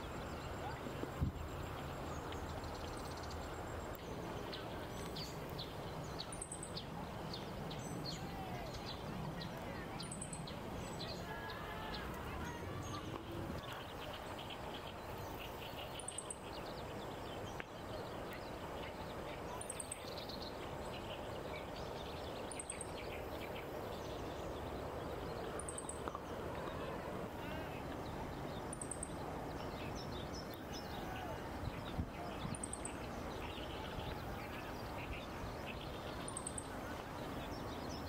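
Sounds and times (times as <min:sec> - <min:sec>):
steady background noise: 0:00.0 - 0:38.0.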